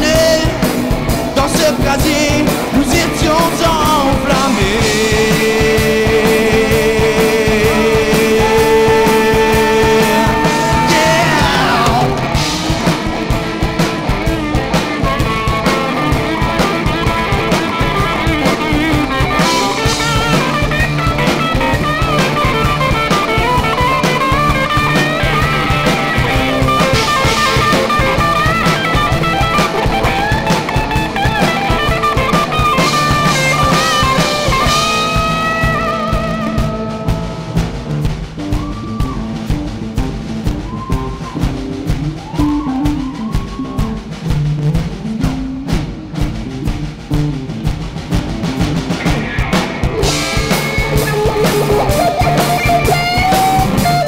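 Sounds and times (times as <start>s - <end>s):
drum beat: 0.0s - 54.0s
electric guitar: 0.0s - 54.0s.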